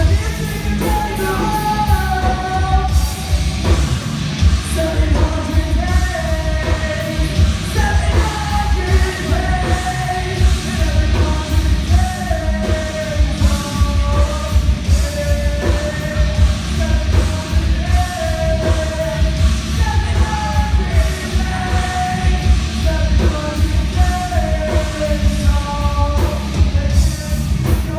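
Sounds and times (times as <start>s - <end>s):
bass: 0.0s - 27.9s
heavy drums: 0.0s - 27.9s.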